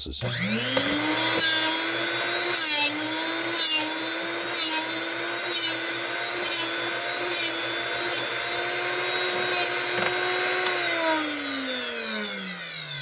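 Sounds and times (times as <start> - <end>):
drill bit grinding: 0.0 - 13.0
sharpener motor hum: 0.2 - 13.0.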